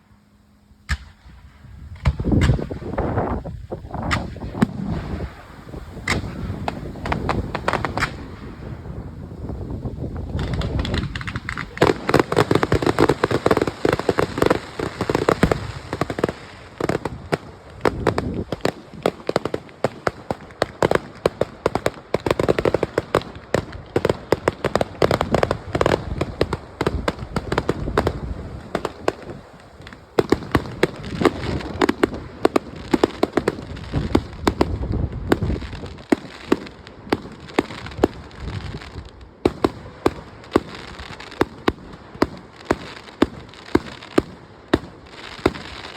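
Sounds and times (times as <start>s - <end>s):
fireworks popping and crackling: 0.8s - 45.9s.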